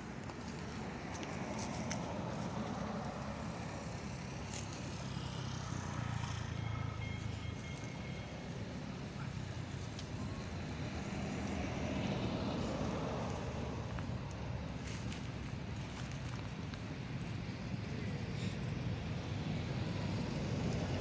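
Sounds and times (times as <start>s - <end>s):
outdoor background noise: 0.0s - 21.0s
vehicle engine rumbling: 0.0s - 21.0s.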